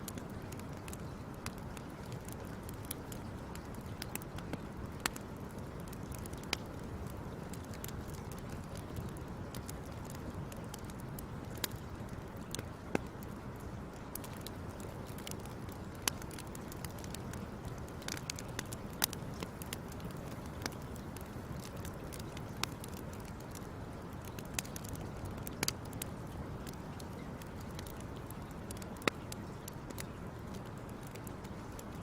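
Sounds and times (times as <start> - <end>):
wood fire crackling: 0.0 - 32.0
low rush of fire: 0.1 - 32.0.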